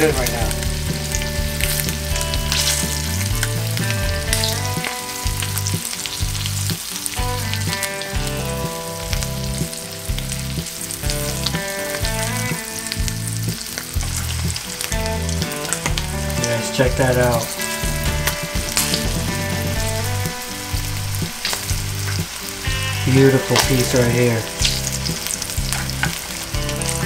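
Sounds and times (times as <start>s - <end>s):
background music with bass: 0.0s - 27.0s
frying sizzle in oil: 0.0s - 27.0s.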